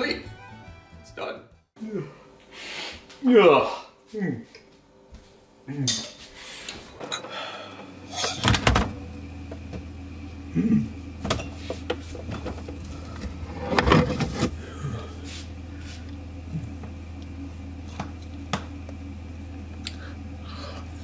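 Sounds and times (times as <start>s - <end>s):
refrigerator hum: 1.8s - 21.0s.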